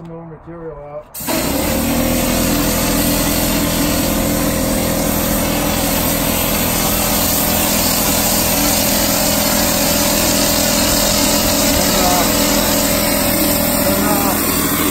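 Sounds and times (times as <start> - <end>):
compressor running: 1.2 - 14.9
spray gun air hiss: 1.2 - 14.9.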